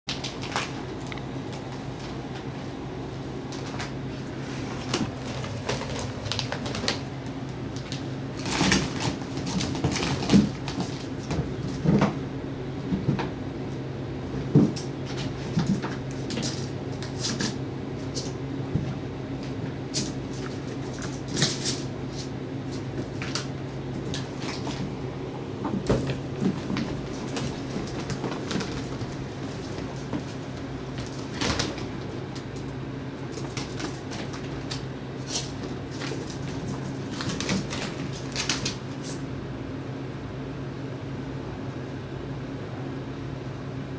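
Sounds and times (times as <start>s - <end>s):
ferrets scuffling: 0.1s - 13.7s, 14.3s - 39.3s
steady low hum: 0.1s - 43.9s.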